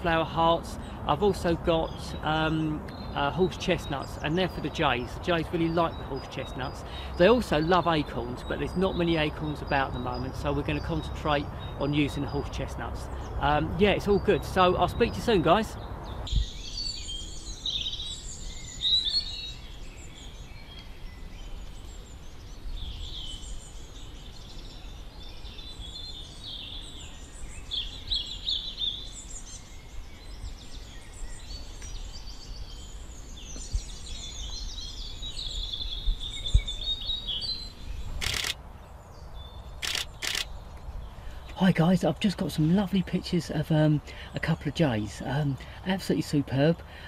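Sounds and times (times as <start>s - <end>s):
low rumble of wind: 0.0s - 47.0s
songbirds singing and calling: 0.0s - 47.0s.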